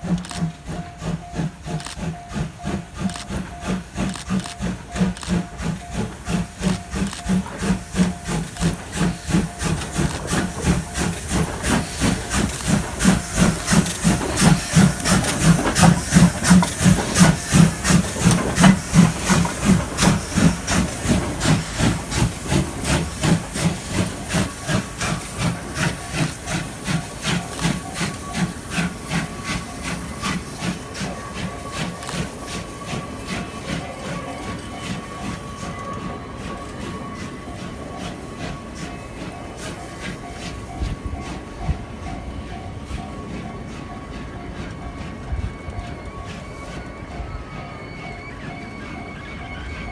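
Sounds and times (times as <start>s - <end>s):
hiss of steam: 0.0s - 49.9s
steam locomotive exhaust chuff: 0.0s - 49.9s.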